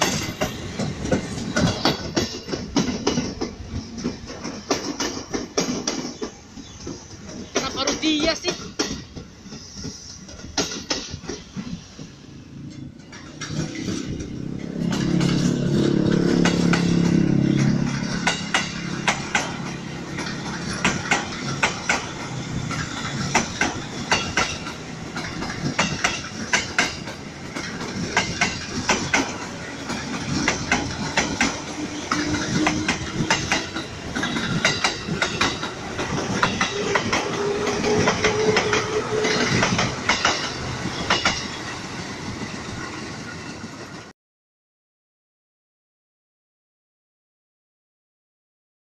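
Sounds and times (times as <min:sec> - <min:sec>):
train wheels clacking over rail joints: 0:00.0 - 0:44.1.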